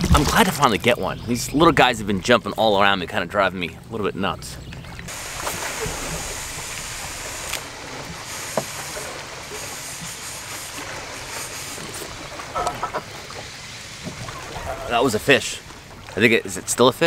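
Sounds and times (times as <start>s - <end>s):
water and wind hissing: 0.0s - 17.0s.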